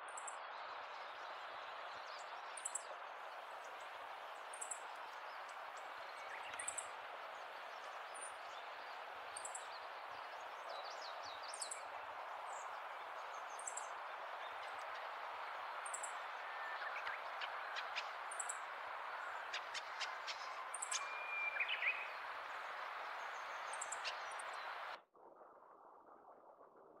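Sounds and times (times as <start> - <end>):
songbird chirping and twittering: 0.0 - 25.0
steady background hiss: 0.0 - 25.0.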